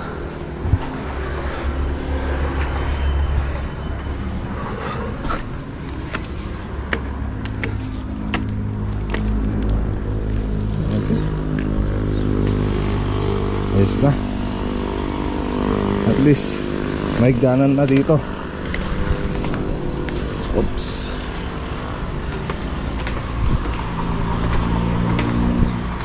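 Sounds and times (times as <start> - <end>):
vehicle engine humming: 0.0 - 26.0
footsteps on tiled stairs: 0.2 - 26.0.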